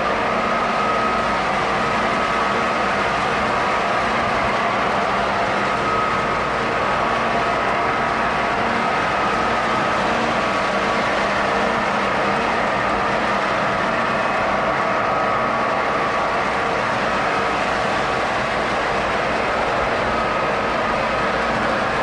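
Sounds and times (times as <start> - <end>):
faint steady tones: 0.0 - 22.0
model train rolling on track: 0.0 - 22.0.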